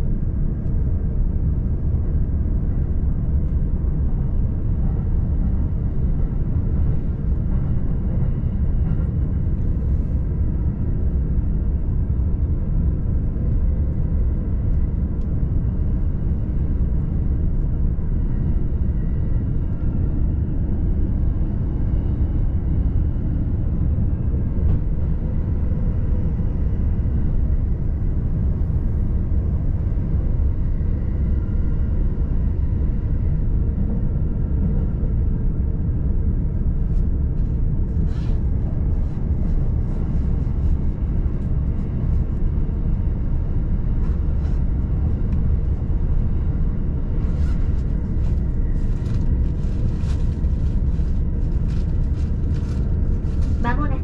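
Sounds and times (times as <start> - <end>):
train running low rumble: 0.0 - 54.0.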